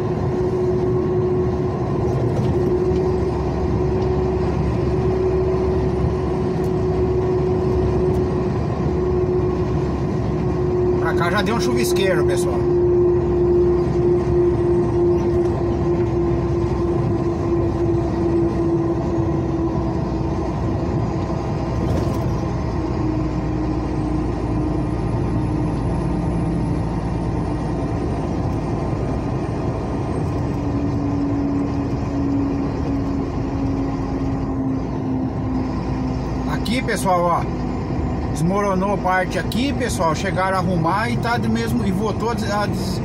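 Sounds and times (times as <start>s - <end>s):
truck engine drone in cab: 0.0s - 43.0s.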